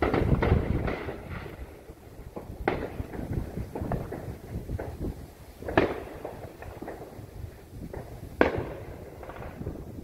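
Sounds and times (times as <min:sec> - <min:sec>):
firework bangs: 0:00.0 - 0:10.0
small firework pops: 0:00.0 - 0:10.0.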